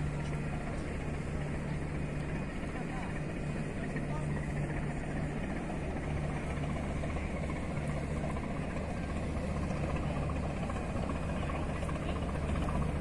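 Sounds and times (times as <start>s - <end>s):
broad rushing noise: 0.0s - 13.0s
ship engine droning: 0.0s - 13.0s.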